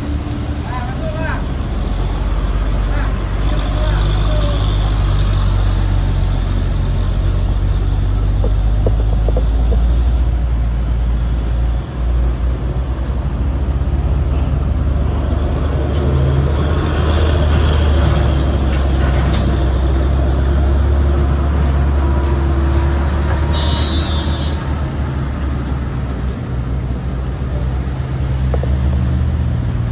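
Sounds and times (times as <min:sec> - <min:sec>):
heavy vehicle engine drone: 0:00.0 - 0:29.9
road noise: 0:00.0 - 0:29.9.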